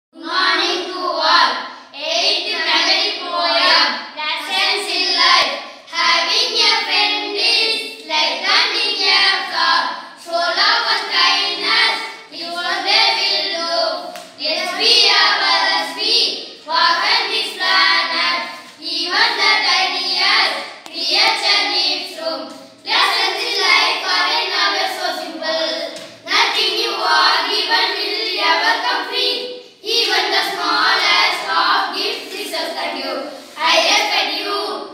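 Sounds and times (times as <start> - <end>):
boys singing in unison: 2.4 - 34.9.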